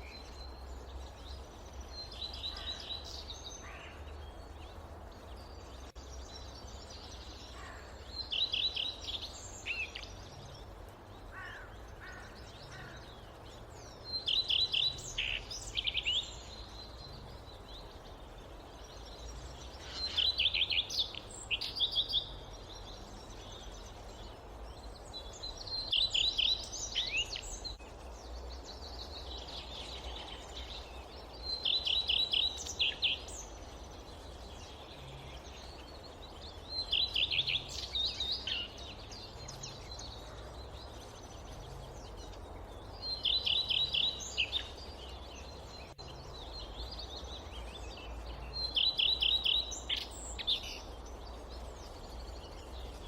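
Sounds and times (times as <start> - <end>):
low wind rumble: 0.0 - 53.0
songbird singing: 0.0 - 53.0.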